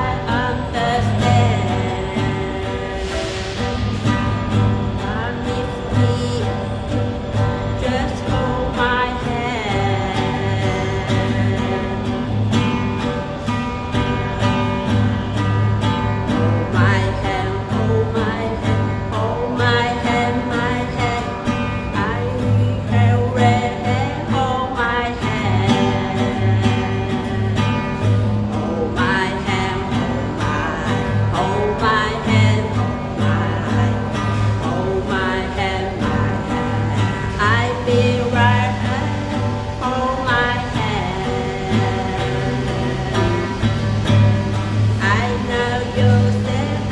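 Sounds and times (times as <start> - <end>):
guitar pop song: 0.0 - 46.9
person singing: 0.0 - 46.9.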